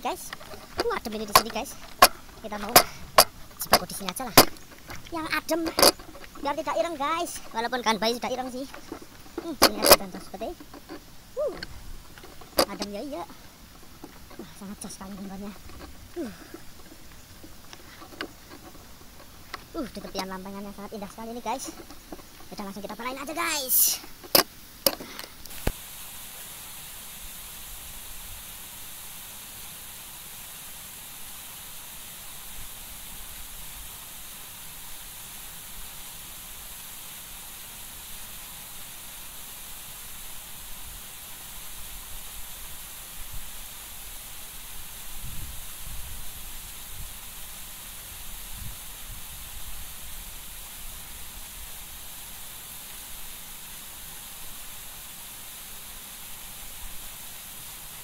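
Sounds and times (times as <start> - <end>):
waterfall hissing: 0.0 - 58.0.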